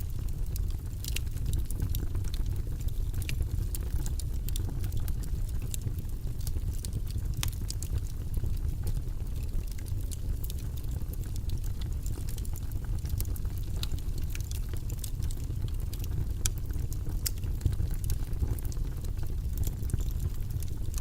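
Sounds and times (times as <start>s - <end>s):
low white noise: 0.0s - 21.0s
small crackling clicks: 0.3s - 21.0s.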